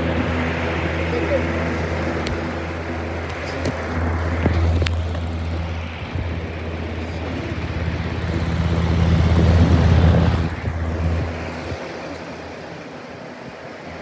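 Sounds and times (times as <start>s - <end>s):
box fan running: 0.0s - 14.0s.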